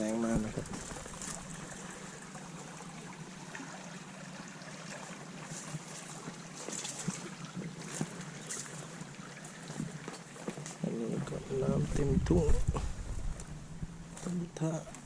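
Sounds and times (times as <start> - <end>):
floodwater rushing: 0.0 - 13.8.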